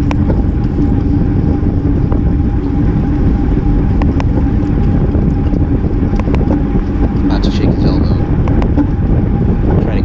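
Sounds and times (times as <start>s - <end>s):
hum of moving bike: 0.0s - 10.0s
wind rushing over microphone: 0.0s - 10.0s.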